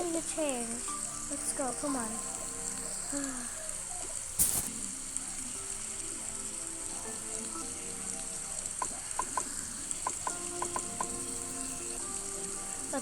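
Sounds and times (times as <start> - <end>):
quiet background music: 0.0 - 13.0
rain patter: 0.0 - 13.0.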